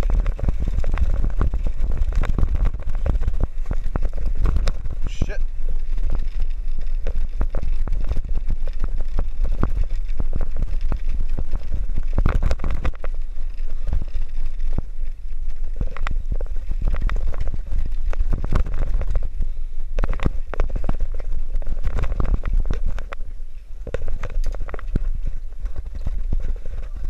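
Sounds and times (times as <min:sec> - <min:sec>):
bicycle clicking and rattling: 0:00.0 - 0:27.0
wind buffeting microphone: 0:00.0 - 0:27.0.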